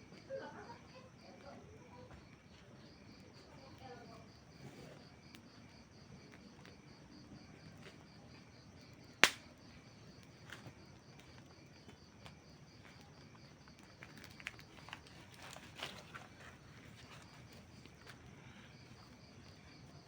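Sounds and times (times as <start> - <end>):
campfire crackling and popping: 2.4 - 19.9.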